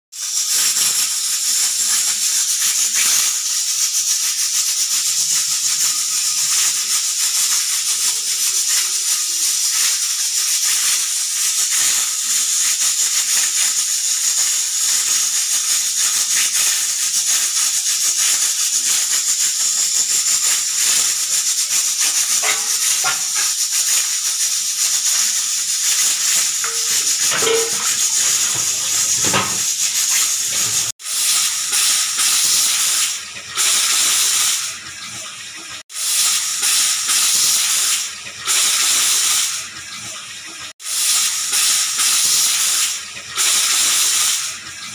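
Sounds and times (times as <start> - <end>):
pressure cooker steam hissing: 0.2 - 34.7, 35.9 - 39.6, 40.8 - 44.6.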